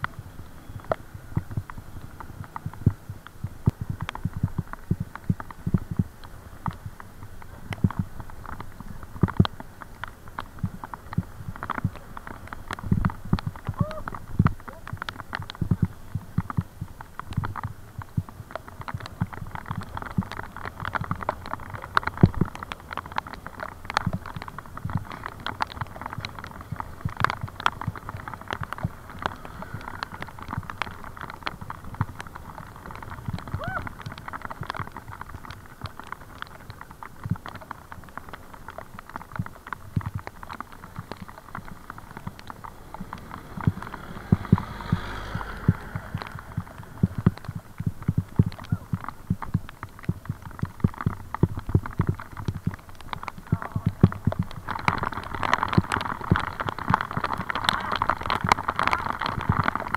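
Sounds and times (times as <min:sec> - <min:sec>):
bicycle rattling and knocking: 0:00.0 - 0:59.9.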